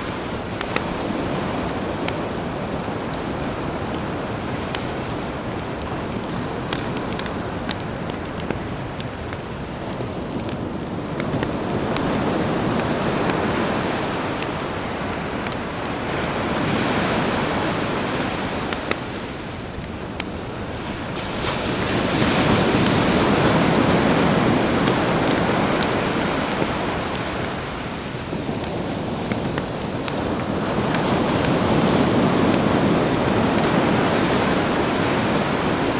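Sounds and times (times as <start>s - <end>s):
campfire crackling and popping: 0.0s - 35.9s
sea waves washing ashore: 0.0s - 35.9s.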